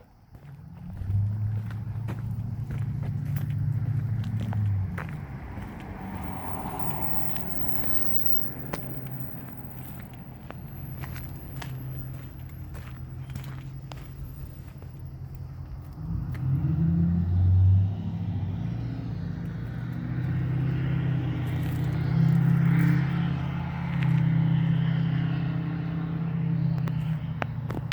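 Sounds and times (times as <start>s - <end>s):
vehicle engine running: 0.3s - 27.9s.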